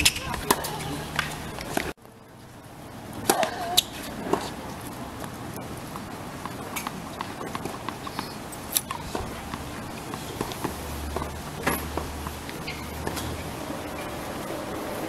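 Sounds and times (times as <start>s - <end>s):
racket hitting tennis ball: 0.0s - 1.9s, 3.2s - 14.1s.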